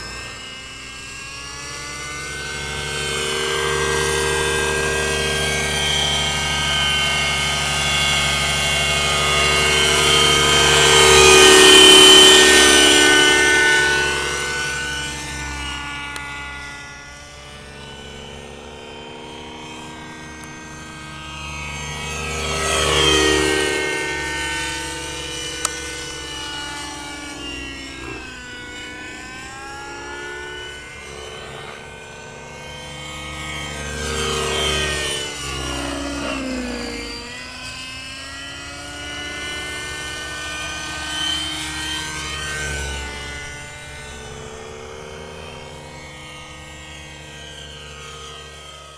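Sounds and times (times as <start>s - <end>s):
model helicopter engine whine: 0.0s - 48.9s.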